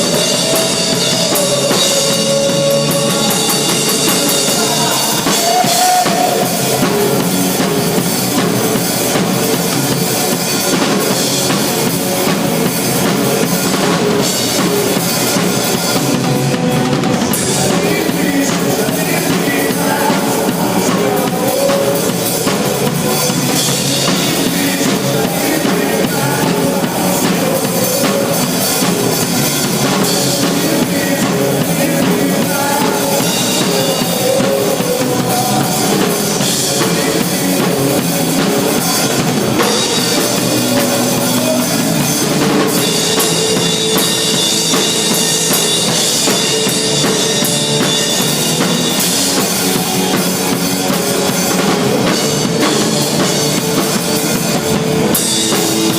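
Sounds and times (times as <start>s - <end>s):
drum-kit beat: 0.0s - 55.9s
loud rock music: 0.0s - 55.9s.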